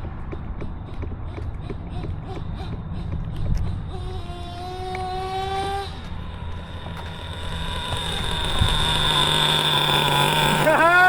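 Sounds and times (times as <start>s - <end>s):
rc car engine high whine: 0.9s - 11.0s.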